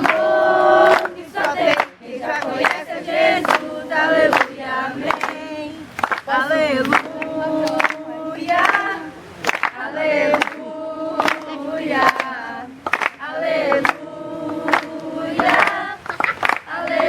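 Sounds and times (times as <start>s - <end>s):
hand claps: 0.0s - 3.7s, 4.3s - 10.6s, 11.2s - 17.0s
group singing gospel chorus: 0.0s - 17.0s.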